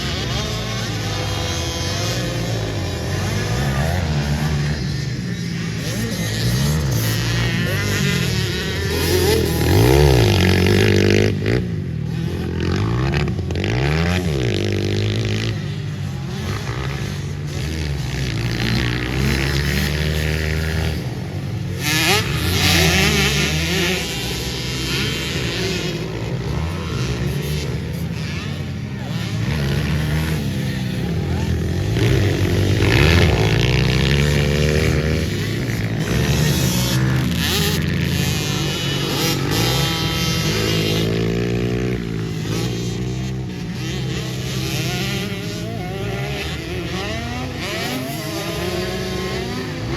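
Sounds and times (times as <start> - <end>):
pit bike engines revving: 0.0 - 49.9.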